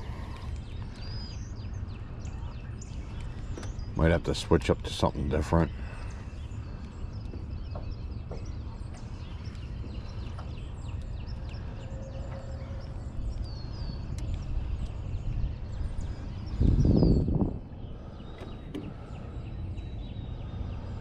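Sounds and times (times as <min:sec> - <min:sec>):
down-sweeping bird notes: 0:00.0 - 0:21.0
songbirds chirping: 0:00.0 - 0:21.0
wind rumble on microphone: 0:00.0 - 0:21.0.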